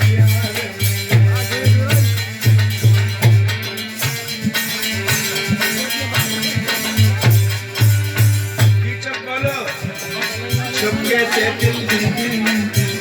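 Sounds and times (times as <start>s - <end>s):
deep drumbeat: 0.0s - 4.2s, 5.0s - 13.0s
held steady notes: 0.0s - 13.0s.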